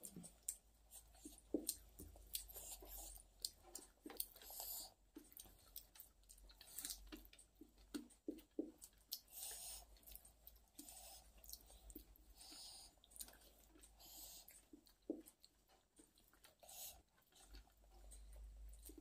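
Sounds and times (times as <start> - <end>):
faint chewing: 0.0 - 19.0.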